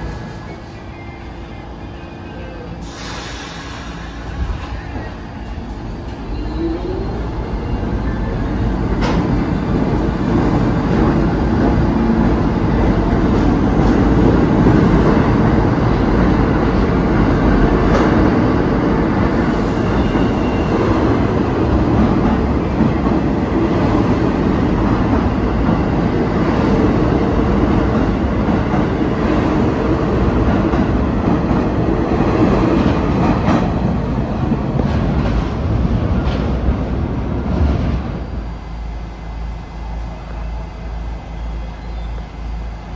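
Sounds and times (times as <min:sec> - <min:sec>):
subway train motor whine: 0:00.0 - 0:42.9
train cars rumbling: 0:00.0 - 0:42.9.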